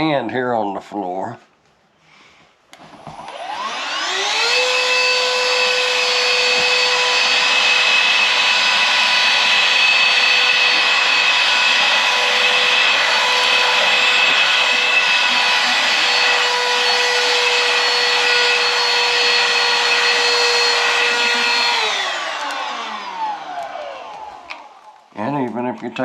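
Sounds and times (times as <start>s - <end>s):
handheld vacuum motor whining: 2.8s - 25.2s.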